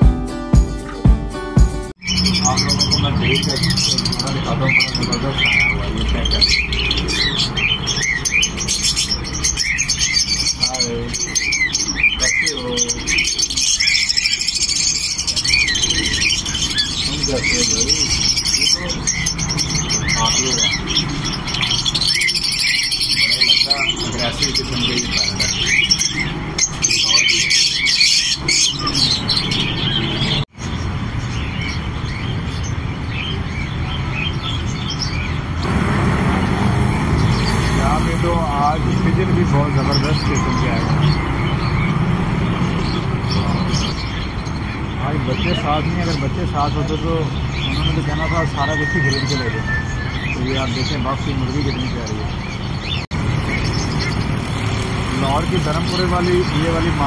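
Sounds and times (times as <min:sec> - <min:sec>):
caged birds chirping: 0:00.0 - 0:57.0.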